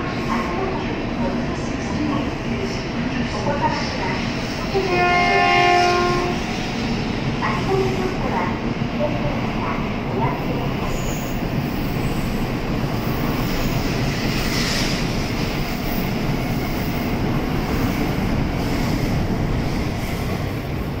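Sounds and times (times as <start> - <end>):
high-speed train rushing past: 0.0 - 21.0.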